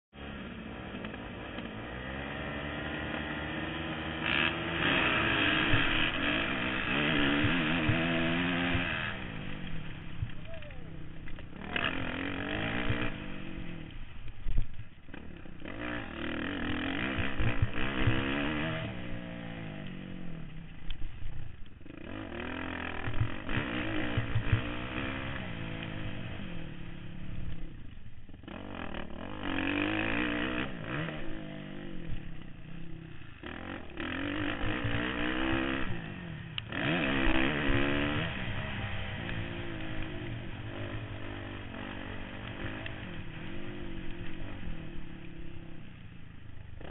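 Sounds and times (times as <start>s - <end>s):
motocross bike engine revving: 0.2s - 46.9s.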